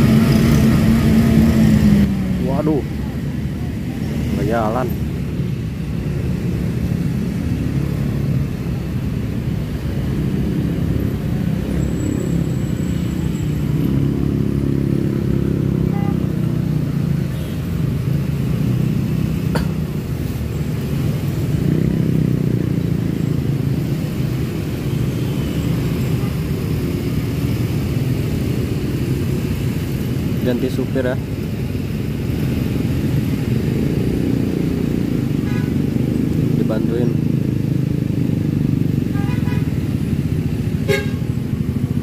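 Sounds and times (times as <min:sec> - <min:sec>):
car and motorcycle engines rumbling: 0:00.0 - 0:42.0.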